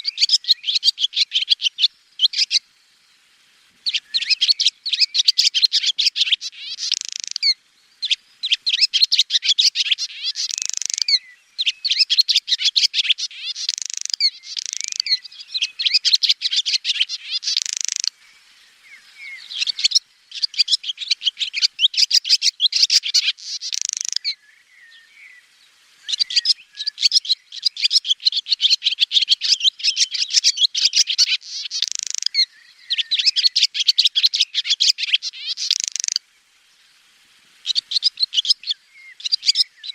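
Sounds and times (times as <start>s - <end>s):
swallow twittering: 0.0s - 2.6s, 3.8s - 25.3s, 26.1s - 36.2s, 37.6s - 39.9s.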